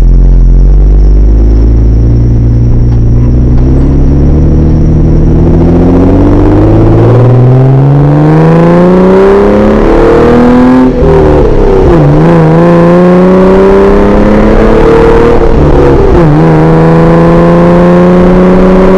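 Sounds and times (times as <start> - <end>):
car exhaust accelerating: 0.0 - 18.9.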